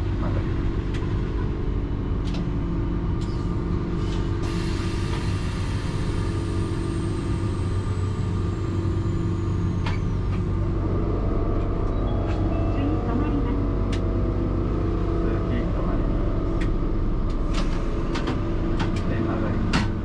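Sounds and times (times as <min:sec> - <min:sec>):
streetcar hum and rumble: 0:00.0 - 0:20.0.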